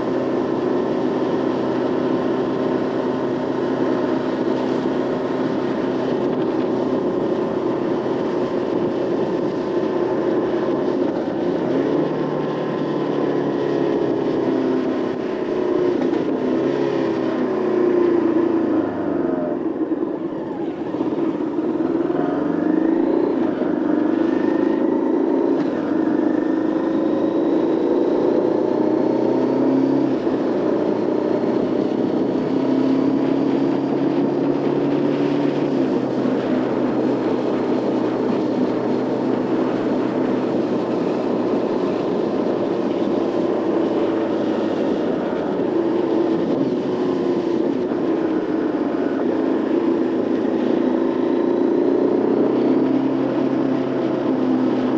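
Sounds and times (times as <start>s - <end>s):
motorcycle engine revving: 0.0s - 54.9s
road noise: 0.0s - 54.9s
wind noise: 2.7s - 54.9s.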